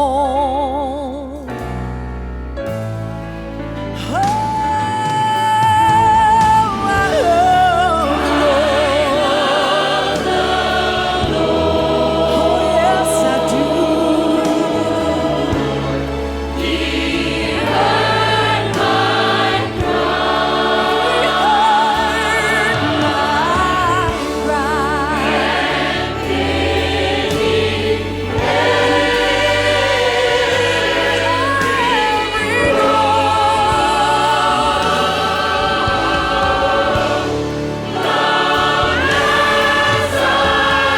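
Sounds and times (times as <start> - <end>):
instrumental accompaniment: 1.5 - 40.9
group singing worship song: 4.0 - 40.9.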